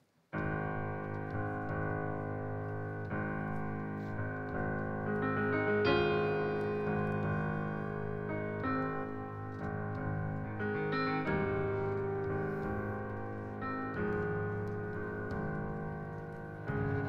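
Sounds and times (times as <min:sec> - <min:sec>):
piano playing slow chords: 0:00.3 - 0:17.0.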